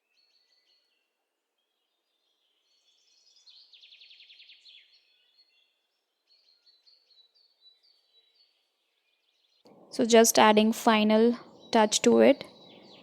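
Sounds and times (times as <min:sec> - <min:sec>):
songbird trilling and chirping: 0:02.1 - 0:13.0.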